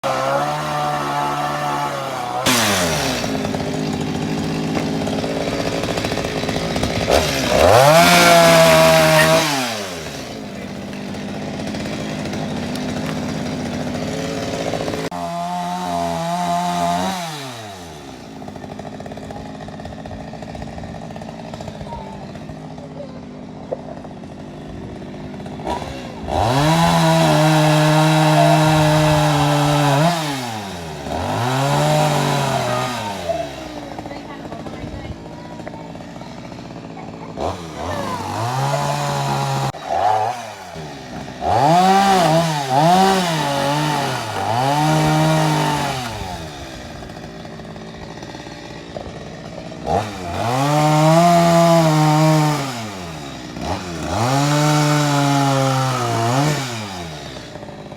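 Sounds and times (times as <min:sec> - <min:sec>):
chainsaw revving and idling: 0:00.0 - 0:57.9.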